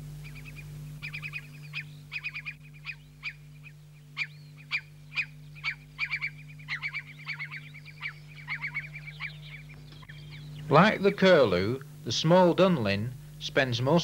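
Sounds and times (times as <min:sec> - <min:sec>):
curlew calling: 0:00.0 - 0:11.8
steady low hum: 0:00.0 - 0:14.0.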